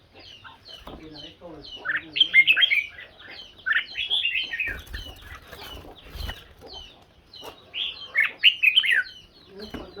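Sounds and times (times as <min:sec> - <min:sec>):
birds singing whistled phrases: 0:00.0 - 0:10.0.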